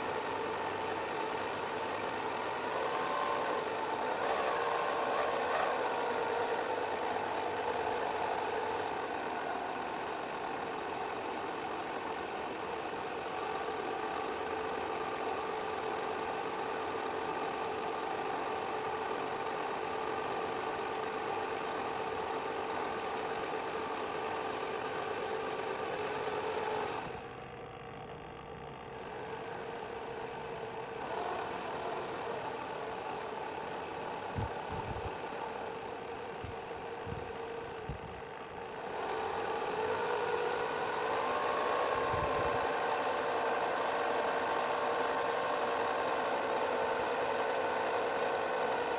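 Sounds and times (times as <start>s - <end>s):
electric motor whine: 0.0s - 48.9s.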